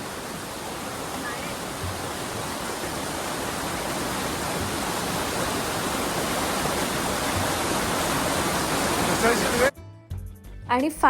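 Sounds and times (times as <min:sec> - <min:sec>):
waterfall stream roaring: 0:00.0 - 0:09.7.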